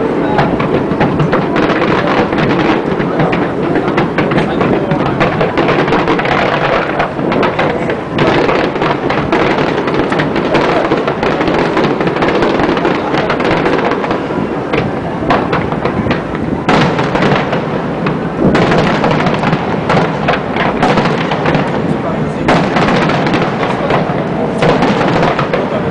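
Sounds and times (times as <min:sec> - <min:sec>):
fireworks bursting and crackling: 0:00.0 - 0:25.9.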